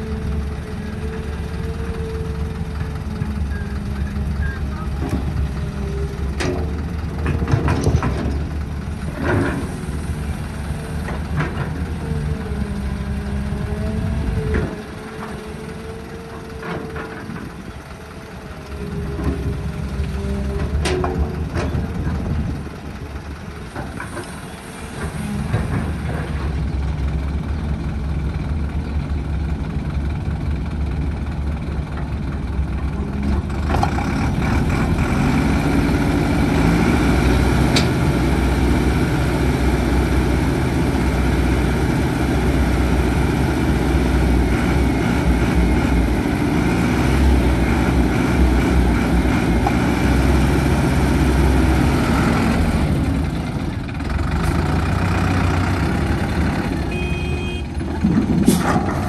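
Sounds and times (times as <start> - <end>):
construction machinery diesel engine: 0.0 - 59.0.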